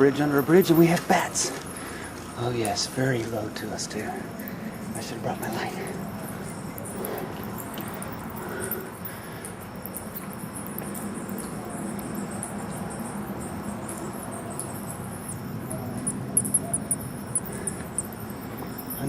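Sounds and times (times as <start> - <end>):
bats chittering squeaks: 0.0 - 19.0
steady background hiss: 0.0 - 19.0.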